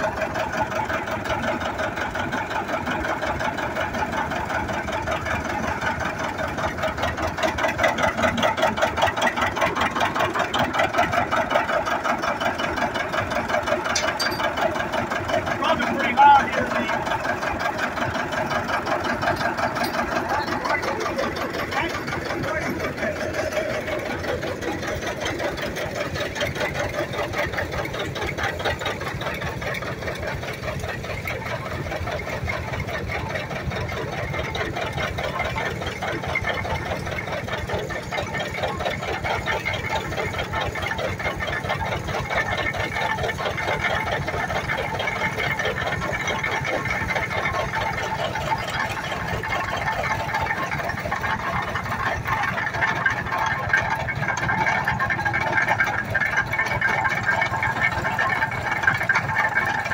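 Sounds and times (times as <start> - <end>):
baler mechanical clatter: 0.0 - 59.9
engine running: 0.0 - 59.9.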